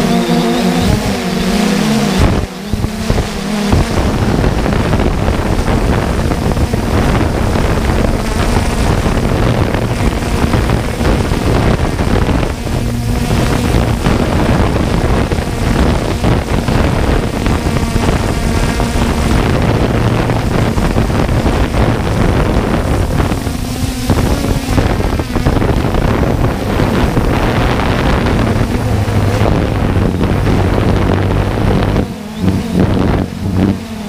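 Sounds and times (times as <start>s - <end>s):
drone propellers rushing: 0.0s - 34.0s
faint steady hum: 0.0s - 34.0s
wind buffeting microphone: 0.0s - 34.0s.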